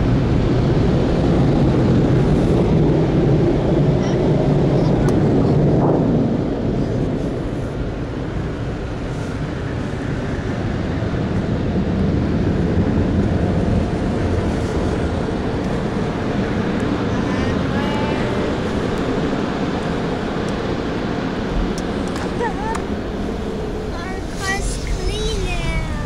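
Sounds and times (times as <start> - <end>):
car wash machinery rumbling: 0.0 - 26.0.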